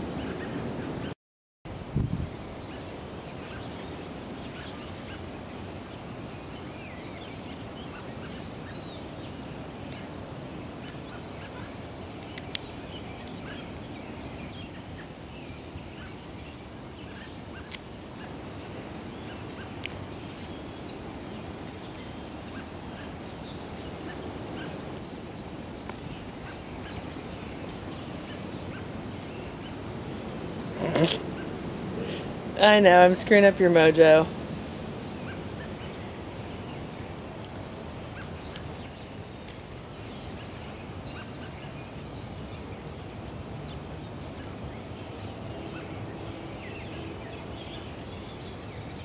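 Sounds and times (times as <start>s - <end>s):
steady background hiss: 1.7s - 49.0s.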